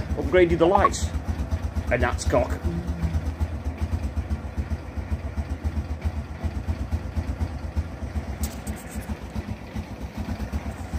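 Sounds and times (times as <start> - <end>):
scooter engine idling: 0.0 - 10.9.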